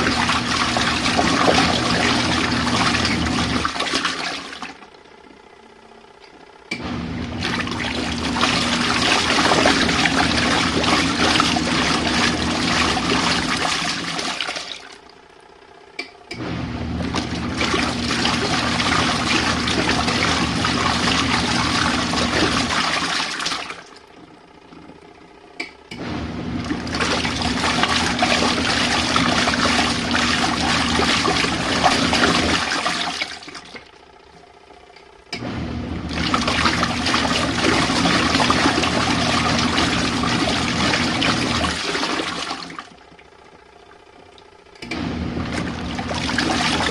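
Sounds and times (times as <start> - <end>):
washing machine churning water: 0.0 - 46.9.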